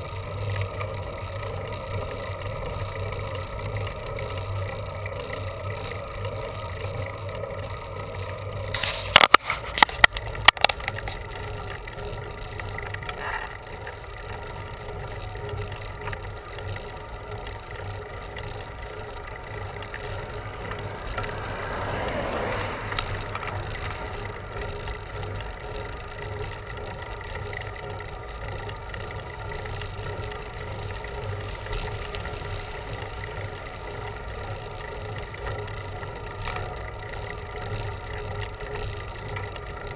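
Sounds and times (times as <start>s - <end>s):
bicycle rolling on road: 0.0s - 39.9s
sharp bicycle clicks: 0.0s - 39.9s.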